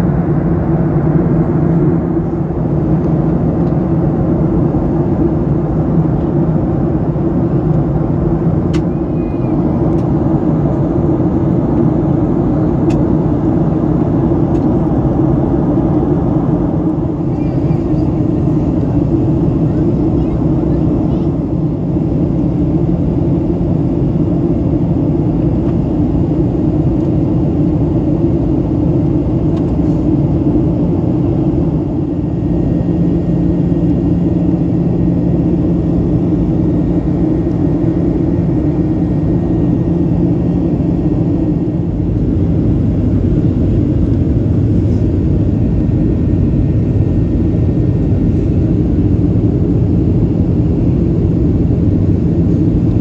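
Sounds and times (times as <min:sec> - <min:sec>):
airplane cabin engine rumble: 0:00.0 - 0:53.0.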